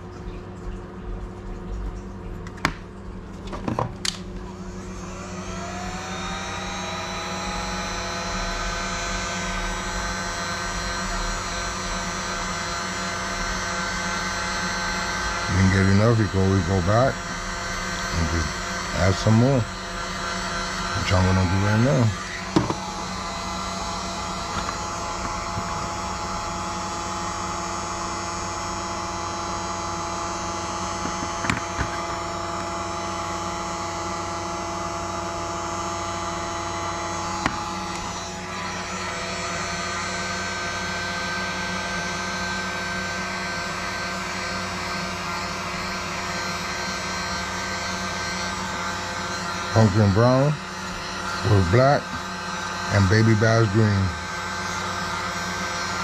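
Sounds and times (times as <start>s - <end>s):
heat gun blower humming: 2.6s - 56.0s.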